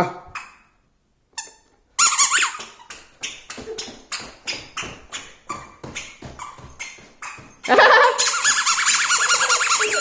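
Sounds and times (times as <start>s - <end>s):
squeaky shoes squeaking: 0.3s - 10.0s.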